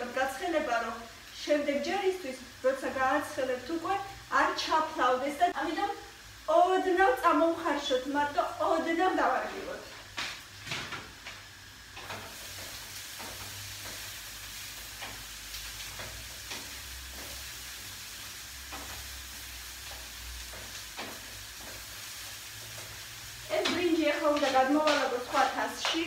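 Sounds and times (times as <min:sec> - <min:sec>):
vegetables sizzling in frying pan: 0:00.0 - 0:26.0.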